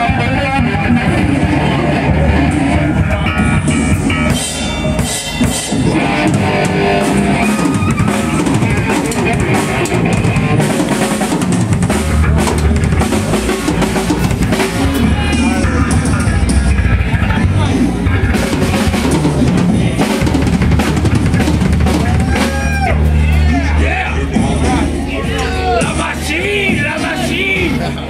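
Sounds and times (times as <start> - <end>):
electric guitar: 0.0 - 26.0
drum kit: 0.0 - 28.0
live band playing loudly: 0.0 - 28.0.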